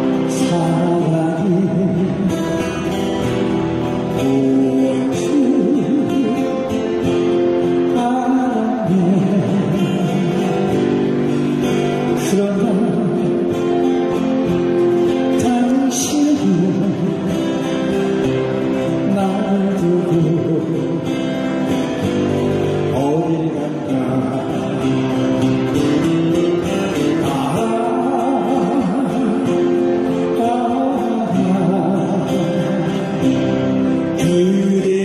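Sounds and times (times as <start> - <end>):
acoustic guitar: 0.0 - 35.0
man singing ballad: 0.0 - 35.0.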